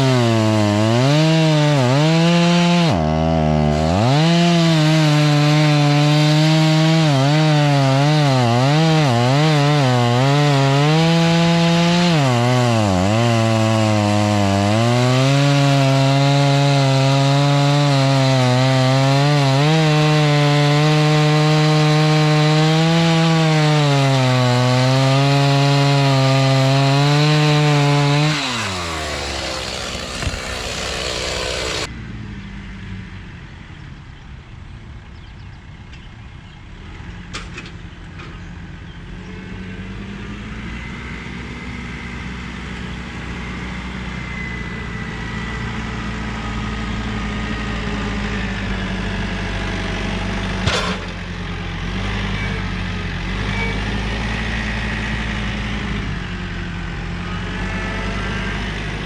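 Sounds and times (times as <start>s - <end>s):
stump grinder cutting wood: 0.0s - 31.9s, 39.1s - 59.0s
tractor diesel engine: 0.0s - 59.0s.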